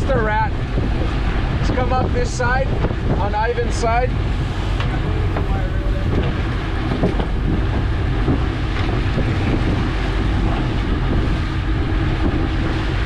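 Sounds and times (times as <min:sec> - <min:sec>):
boat engine running: 0:00.0 - 0:13.0
rush of wake water: 0:00.0 - 0:13.0
wind buffeting microphone: 0:00.0 - 0:13.0.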